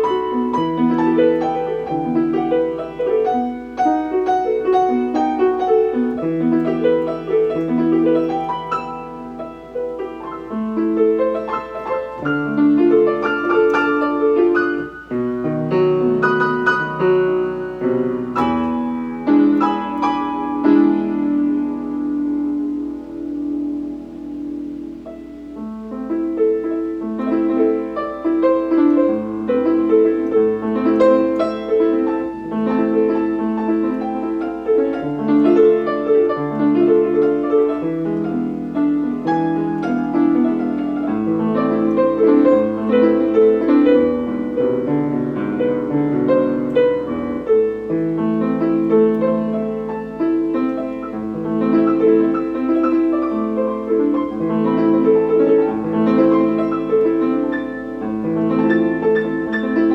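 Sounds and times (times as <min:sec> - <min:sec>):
piano piece: 0:00.0 - 0:59.9.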